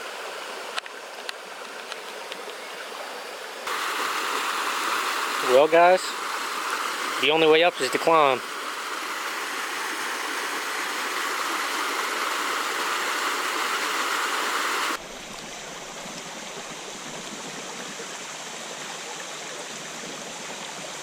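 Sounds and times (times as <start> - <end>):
mountain creek rushing water: 0.0 - 21.0.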